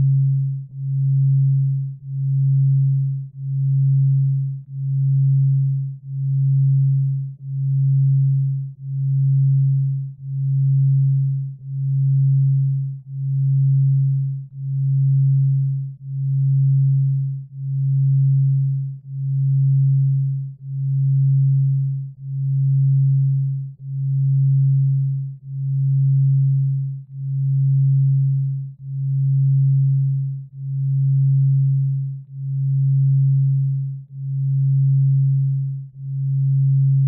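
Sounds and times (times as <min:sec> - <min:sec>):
low pulsing sine tone: 0:00.0 - 0:37.0.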